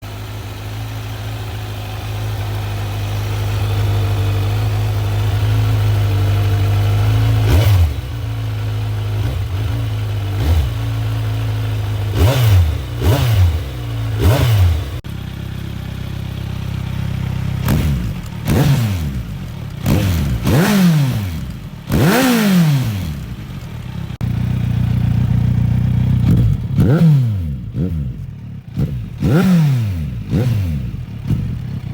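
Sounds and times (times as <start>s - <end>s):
motorcycle engine idling: 0.0s - 31.9s
engine revving: 1.1s - 31.9s.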